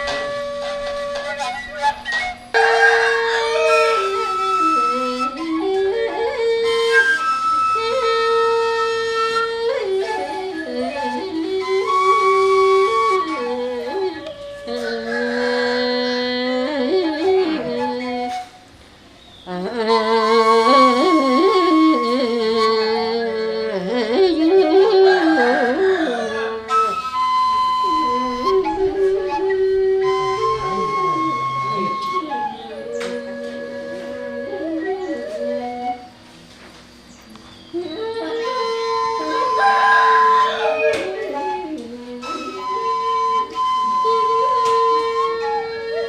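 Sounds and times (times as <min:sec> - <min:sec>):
bamboo flute folk melody: 0:00.0 - 0:46.0.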